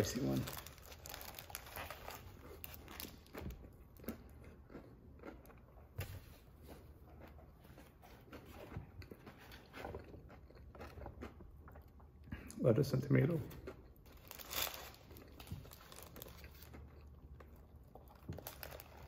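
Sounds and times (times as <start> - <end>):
crunchy biting and chewing: 0.2 - 12.0, 13.5 - 19.0.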